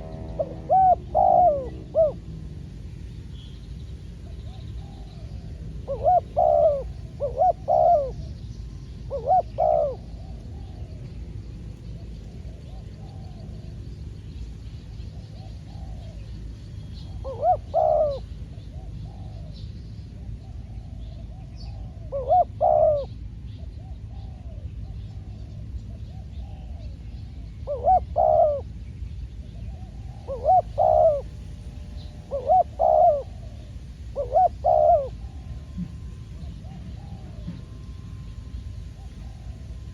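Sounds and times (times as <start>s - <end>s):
doves cooing: 0.0s - 2.8s, 4.1s - 13.9s, 15.1s - 28.8s, 29.6s - 39.9s.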